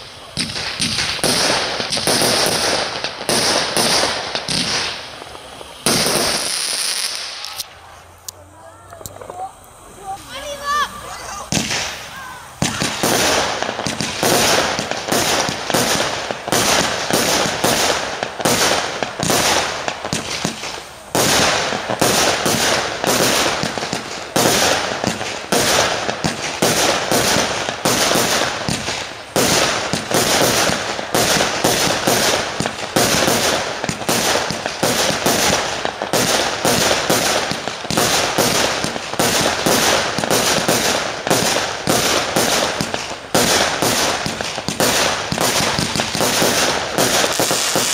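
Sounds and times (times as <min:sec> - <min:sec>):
fireworks launching and bursting: 0:00.0 - 0:08.3, 0:08.9 - 0:47.9.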